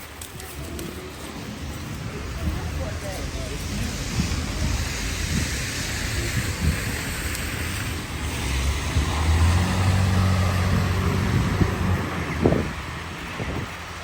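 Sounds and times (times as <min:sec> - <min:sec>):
street traffic: 0:00.0 - 0:14.0
vehicle engine humming: 0:00.0 - 0:14.0
wind on microphone: 0:00.0 - 0:14.0.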